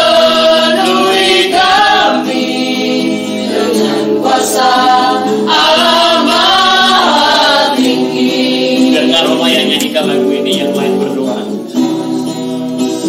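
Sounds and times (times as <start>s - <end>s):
group singing worship song: 0.0s - 11.4s.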